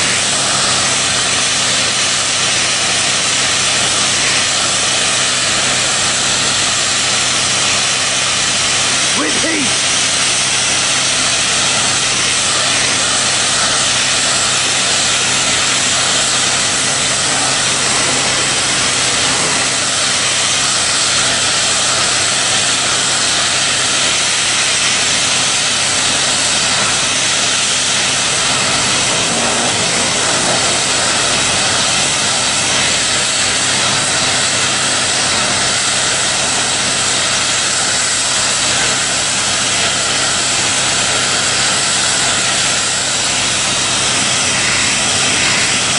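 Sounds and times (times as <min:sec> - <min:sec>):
high-pressure water jet hissing: 0:00.0 - 0:45.9
pump engine humming: 0:00.0 - 0:45.9.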